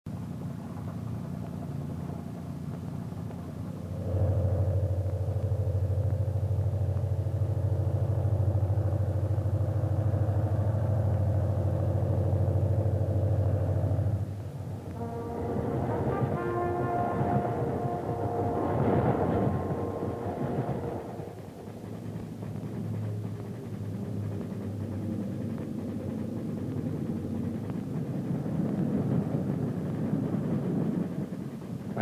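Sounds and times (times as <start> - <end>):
diesel locomotive passing: 0.1 - 32.0.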